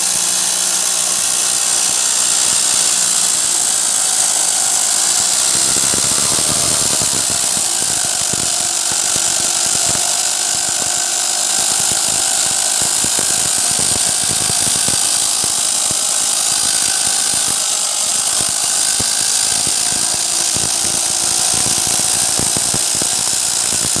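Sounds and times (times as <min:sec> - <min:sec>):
electric saw whining: 0:00.0 - 0:24.0.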